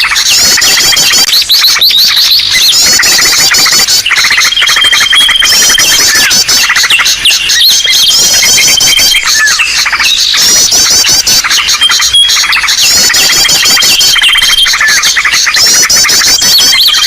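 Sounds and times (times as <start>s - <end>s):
rapid chattering trills: 0.0s - 17.0s
small birds chirping: 0.0s - 17.0s.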